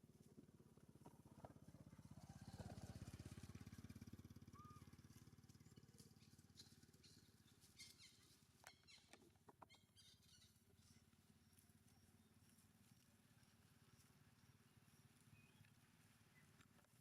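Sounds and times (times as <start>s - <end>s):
faint small engine running: 0.0s - 17.0s.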